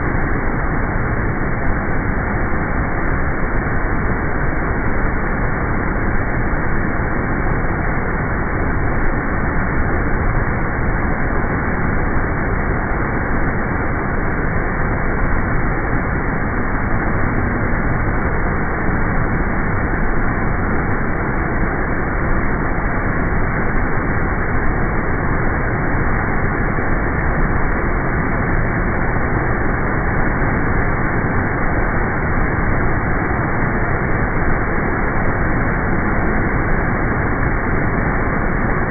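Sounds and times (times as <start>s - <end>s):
waterfall water rushing: 0.0s - 38.9s.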